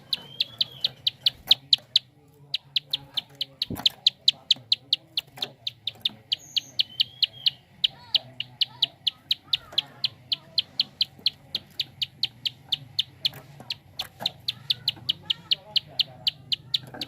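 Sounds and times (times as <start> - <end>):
bird ticking call: 0.0 - 17.0
faint bird chirps: 0.0 - 17.0.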